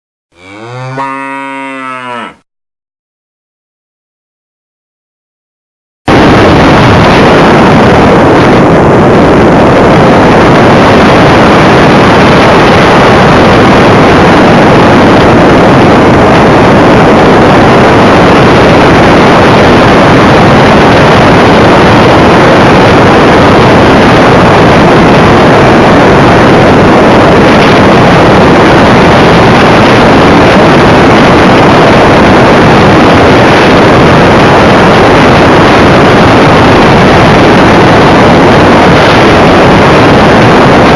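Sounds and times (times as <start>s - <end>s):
airflow and motor noise: 6.1s - 40.9s.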